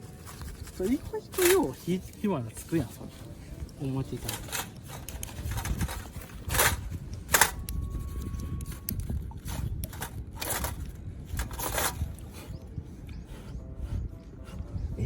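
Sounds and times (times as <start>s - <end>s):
fire-starter rod rasping strokes: 0.0s - 15.0s.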